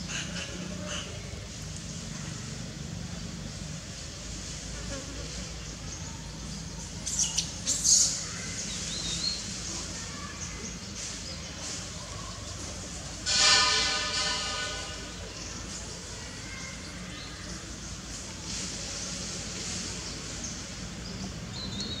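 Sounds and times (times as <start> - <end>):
faint forest background: 0.0 - 22.0.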